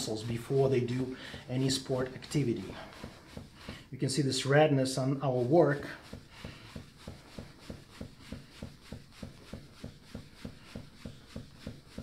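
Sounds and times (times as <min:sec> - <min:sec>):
rapid knuckle tapping on body: 0:00.0 - 0:03.9, 0:05.4 - 0:12.0.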